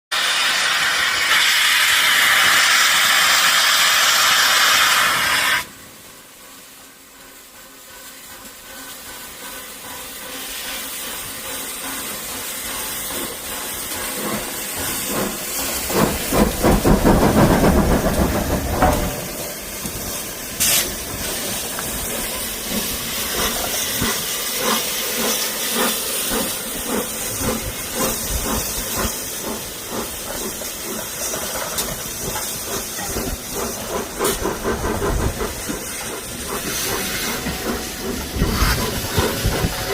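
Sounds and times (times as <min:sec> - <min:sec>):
steam hiss: 0:00.1 - 0:39.9
steam locomotive exhaust beats: 0:00.1 - 0:39.9.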